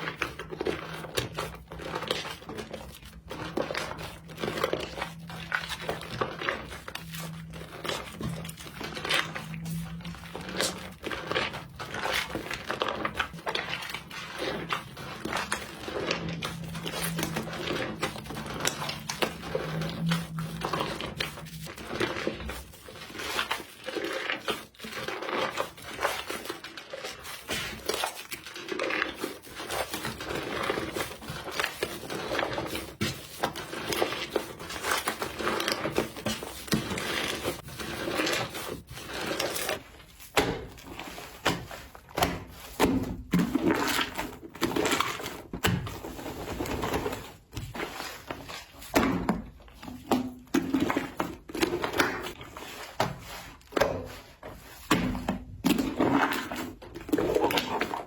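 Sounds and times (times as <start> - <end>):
slime squishing and crackling: 0.0 - 58.0.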